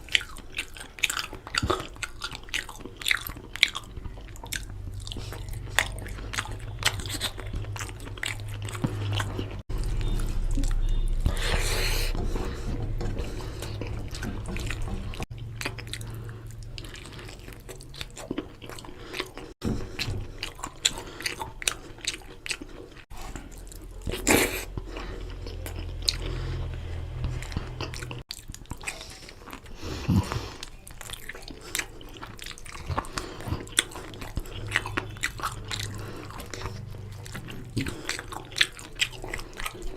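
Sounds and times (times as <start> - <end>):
close-up chewing: 0.0 - 39.9
low steady hum: 1.3 - 28.3, 28.9 - 39.9.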